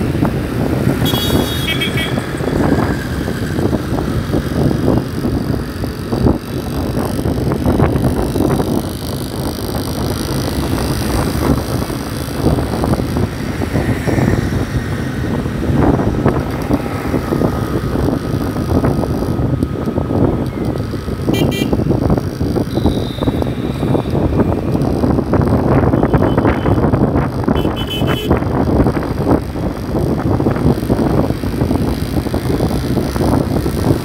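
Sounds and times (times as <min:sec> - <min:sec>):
motorcycle engine: 0:00.0 - 0:34.0
surrounding traffic: 0:00.0 - 0:34.0
wind buffeting microphone: 0:00.0 - 0:34.0.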